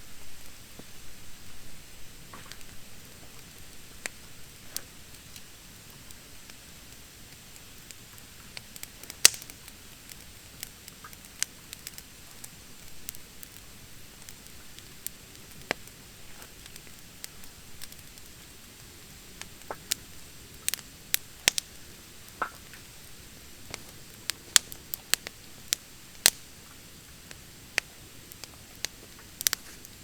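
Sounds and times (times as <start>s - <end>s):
wood fire crackling and popping: 2.2s - 30.0s.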